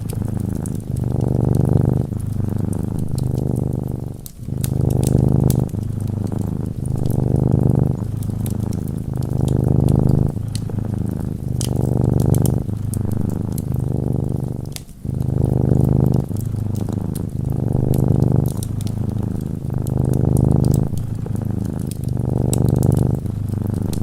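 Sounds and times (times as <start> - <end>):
cat purring: 0.0 - 24.0
wood fire crackling: 0.0 - 24.0.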